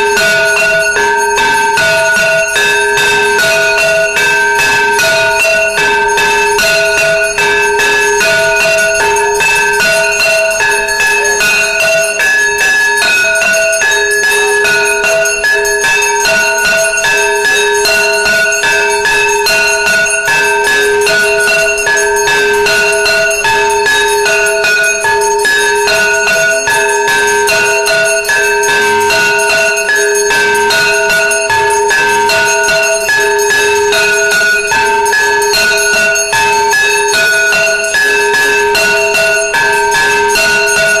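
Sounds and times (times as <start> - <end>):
bells ringing rapidly: 0.0 - 41.0.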